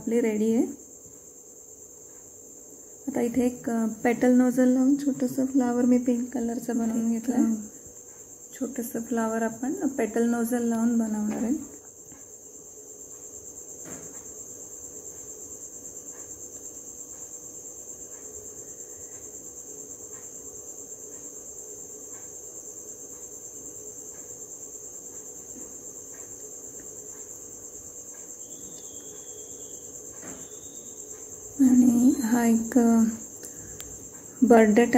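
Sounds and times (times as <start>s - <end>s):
cricket chirring: 0.0s - 34.9s
faint low hum: 0.0s - 34.9s.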